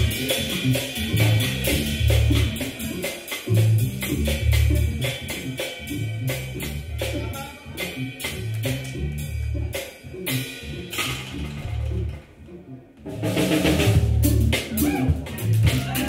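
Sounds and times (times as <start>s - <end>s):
jazz organ quartet playing: 0.0s - 16.0s
low organ bass notes: 0.0s - 16.0s.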